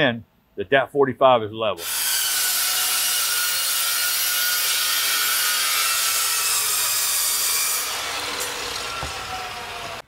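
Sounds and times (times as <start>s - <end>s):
chop saw cutting metal pipe: 1.8s - 10.0s.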